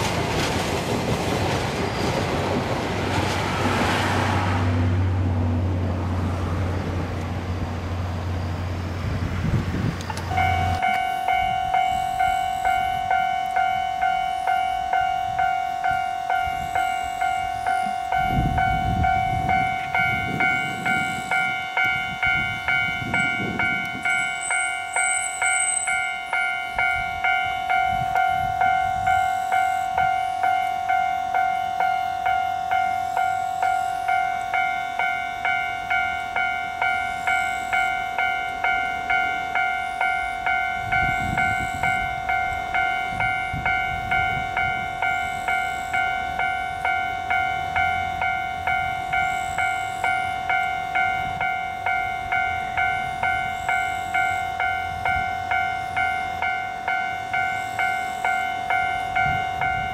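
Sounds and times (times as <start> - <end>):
level crossing warning bell: 10.0 - 59.9.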